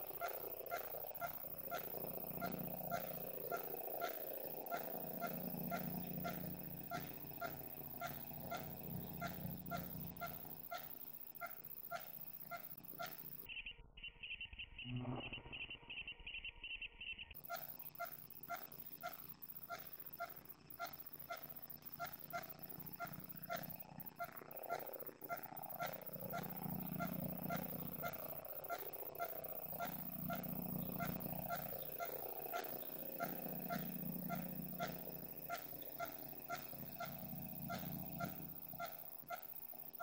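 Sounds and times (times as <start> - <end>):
rhythmic pulsing noise: 0.0 - 13.6, 17.4 - 40.0.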